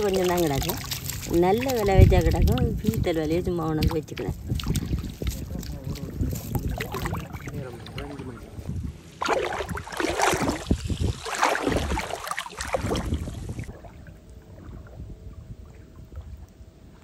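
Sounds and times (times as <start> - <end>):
wading through shallow water: 0.0 - 17.0.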